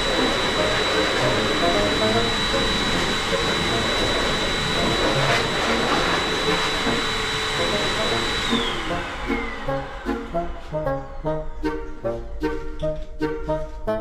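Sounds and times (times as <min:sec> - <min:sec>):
hair dryer blower running: 0:00.0 - 0:11.6
motor whine winding down: 0:00.0 - 0:12.0.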